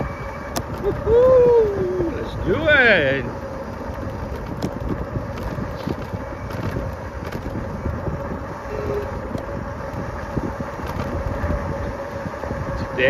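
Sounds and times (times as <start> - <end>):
bicycle rumbling on pavement: 0.0 - 13.0
wind on microphone: 0.0 - 13.0.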